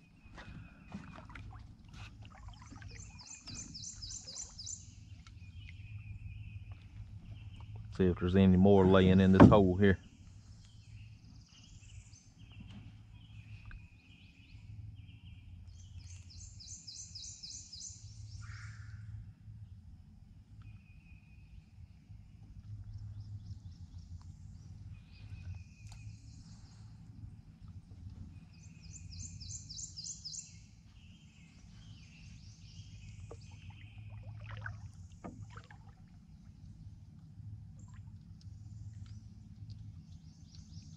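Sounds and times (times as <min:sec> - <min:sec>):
faint low rumble: 0:00.0 - 0:16.6, 0:17.9 - 0:40.9
wild birds singing and calling: 0:00.0 - 0:19.2, 0:20.6 - 0:37.2, 0:37.8 - 0:40.9.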